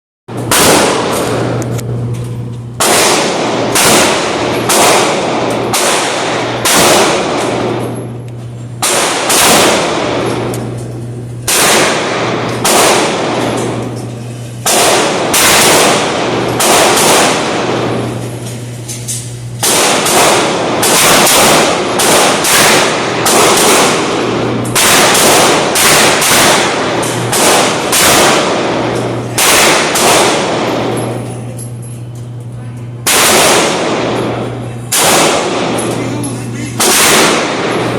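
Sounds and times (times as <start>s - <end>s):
gunshots: 0.3s - 1.6s, 2.8s - 7.9s, 8.8s - 10.6s, 11.4s - 14.0s, 14.6s - 18.3s, 19.6s - 31.2s, 33.0s - 37.9s.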